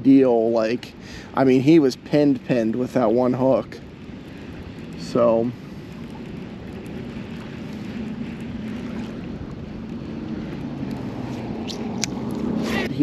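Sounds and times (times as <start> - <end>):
boat motor humming: 0.0 - 13.0
wind noise on microphone: 0.0 - 13.0.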